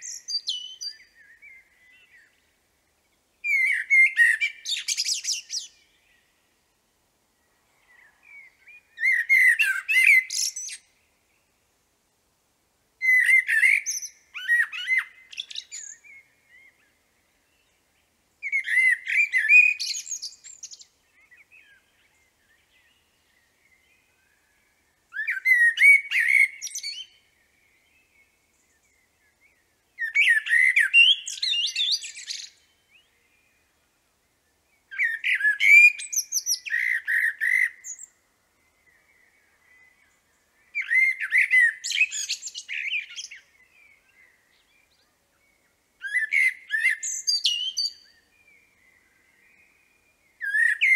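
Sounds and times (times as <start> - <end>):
blackbird singing: 0.0 - 2.5, 3.4 - 6.4, 7.8 - 11.3, 13.0 - 33.9, 34.5 - 50.9.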